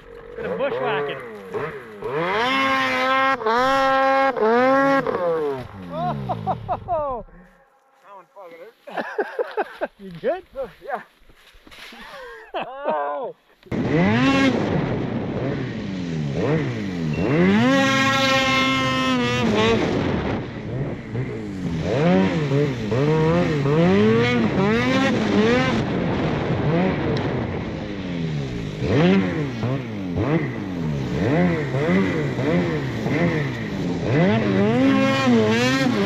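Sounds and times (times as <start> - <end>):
snowmobile engine revving: 0.0 - 7.5, 13.7 - 36.0.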